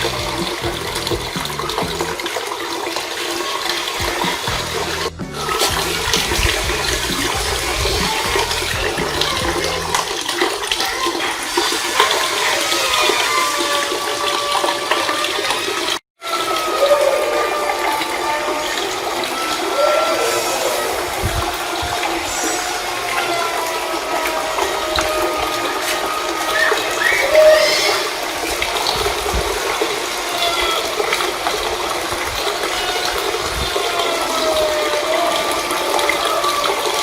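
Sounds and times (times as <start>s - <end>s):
water splashing down small waterfall: 0.0s - 37.0s.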